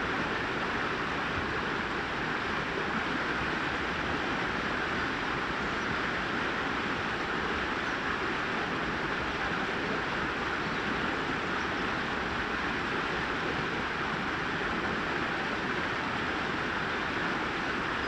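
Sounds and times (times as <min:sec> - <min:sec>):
brook water babbling over rocks: 0:00.0 - 0:18.0.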